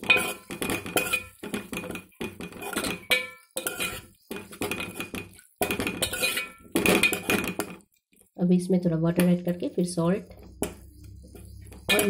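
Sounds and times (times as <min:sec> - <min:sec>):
metal spatula scraping pot: 0:00.0 - 0:07.9, 0:09.6 - 0:12.0.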